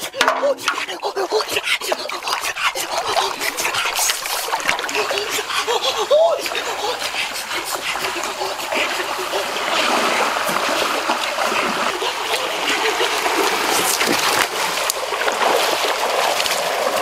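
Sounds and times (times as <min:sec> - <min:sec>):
river water rushing and splashing: 0:00.0 - 0:17.0.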